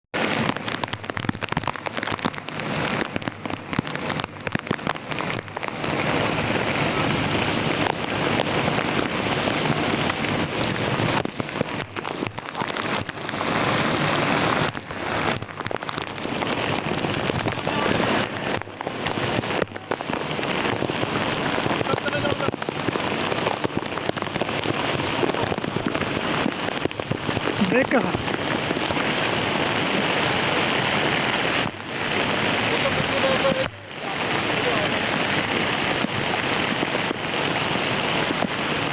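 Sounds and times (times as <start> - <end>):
heavy rain falling: 0.1 - 38.9.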